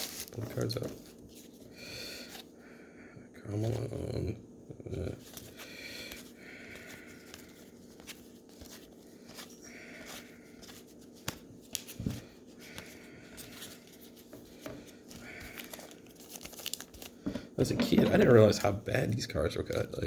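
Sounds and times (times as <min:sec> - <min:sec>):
cards rustling: 0:00.0 - 0:02.5, 0:05.2 - 0:18.8
faint steady hum: 0:00.0 - 0:20.0.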